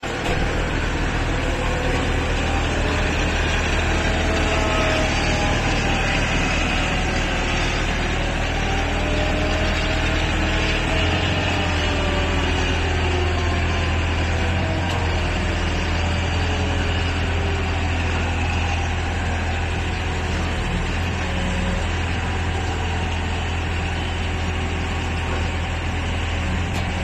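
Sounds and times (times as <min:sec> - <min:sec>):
excavator diesel engine running: 0:00.0 - 0:27.0
mulcher whine: 0:00.0 - 0:27.0.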